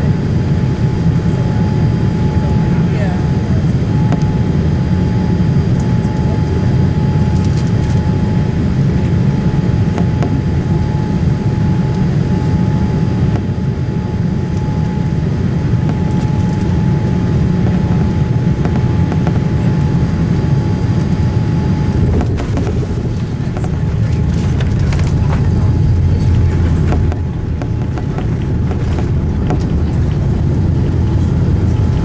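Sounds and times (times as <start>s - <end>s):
airplane cabin roar: 0.0s - 32.0s
thin steady whine: 0.0s - 32.0s.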